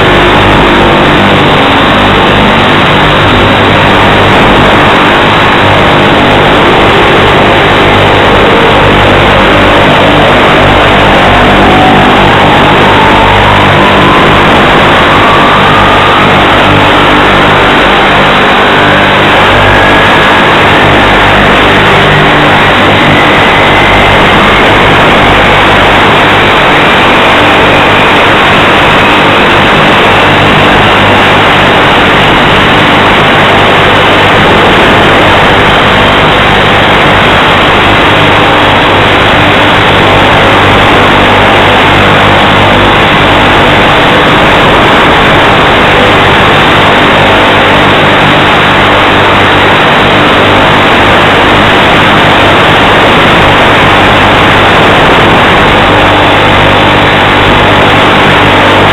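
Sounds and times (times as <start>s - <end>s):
faint rising whine: 0.0s - 58.9s.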